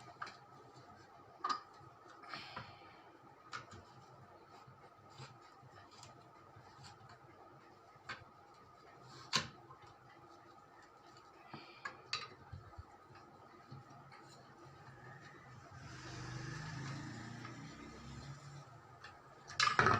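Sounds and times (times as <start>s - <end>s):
faint steady hum: 0.0s - 19.9s.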